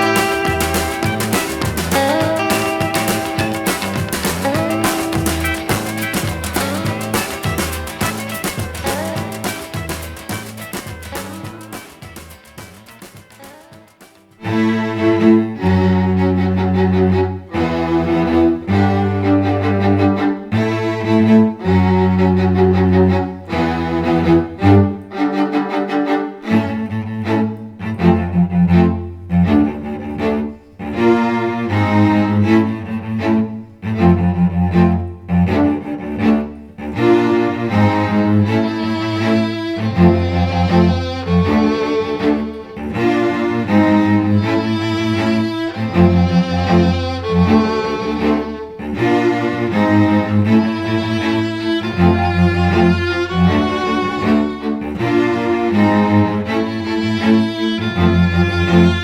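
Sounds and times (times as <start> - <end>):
low bowed strings: 0.0 - 59.0.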